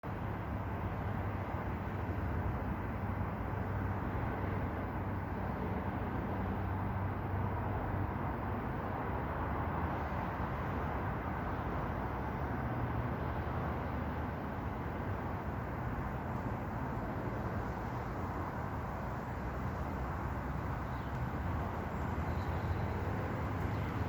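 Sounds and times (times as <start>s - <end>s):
constant rushing noise: 0.0s - 24.0s.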